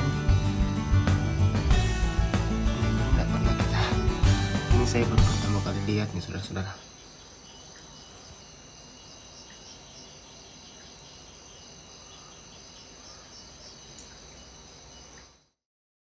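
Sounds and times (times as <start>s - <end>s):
insect chirps: 2.2s - 15.6s
night insects trilling: 2.2s - 15.6s.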